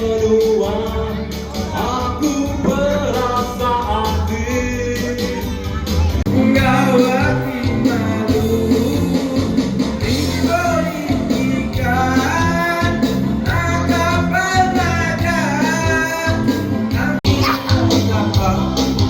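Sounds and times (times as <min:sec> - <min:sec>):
music with singing voice: 0:00.0 - 0:19.0.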